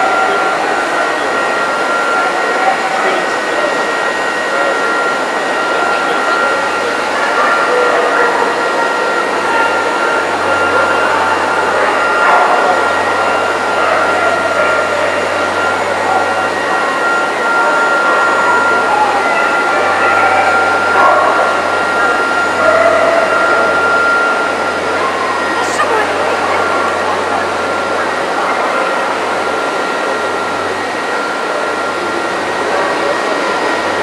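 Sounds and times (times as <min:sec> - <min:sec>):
hubbub of many voices: 0:00.0 - 0:34.0
steady high whine: 0:00.0 - 0:34.0.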